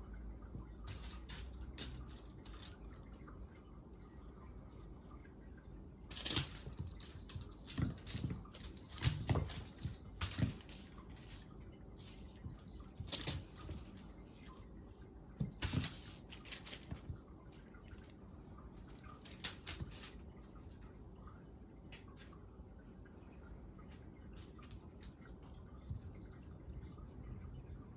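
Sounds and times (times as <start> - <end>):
cat paws tapping and scuffling: 0.6 - 3.7, 6.0 - 26.8.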